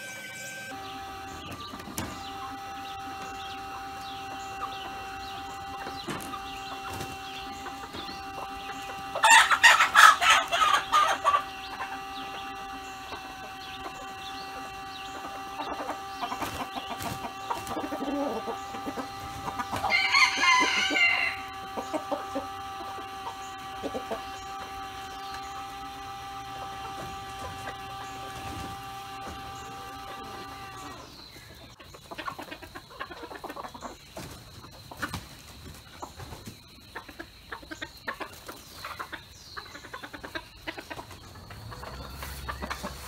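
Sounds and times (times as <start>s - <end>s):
chickens clucking and cackling: 0.0s - 43.0s
loud chicken calls: 0.0s - 43.0s.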